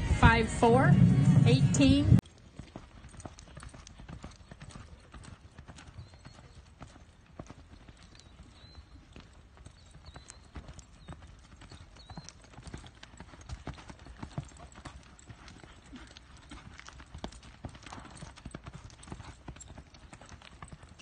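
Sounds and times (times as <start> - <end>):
horse hoofbeats on dirt: 2.1 - 21.0.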